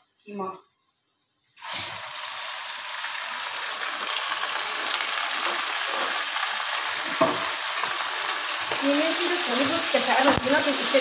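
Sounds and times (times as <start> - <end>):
oil sizzling in a frying pan: 1.6 - 11.0.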